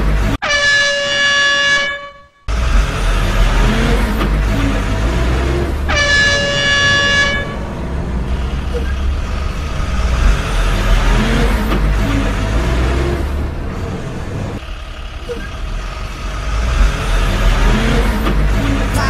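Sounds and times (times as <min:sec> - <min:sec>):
heavy truck engine running: 0:00.0 - 0:00.4, 0:02.5 - 0:19.0.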